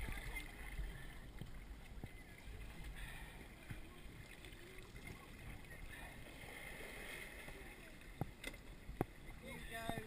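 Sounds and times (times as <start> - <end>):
water lapping and trickling: 0.0 - 10.0.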